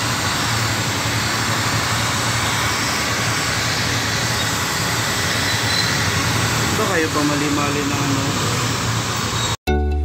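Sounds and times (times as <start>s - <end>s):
heat gun blowing air: 0.0s - 9.6s.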